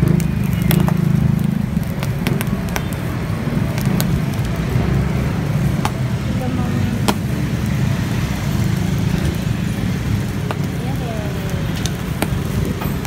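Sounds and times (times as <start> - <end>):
meat grilling over charcoal: 0.0 - 13.0
sharp pops and crackles: 0.0 - 13.0
steady low rumble: 0.0 - 13.0.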